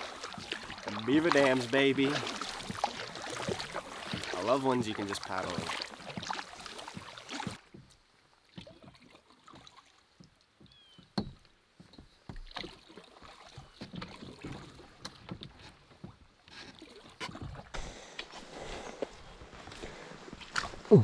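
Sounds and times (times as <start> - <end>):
paddle splashing in water: 0.0 - 10.4, 12.3 - 21.0.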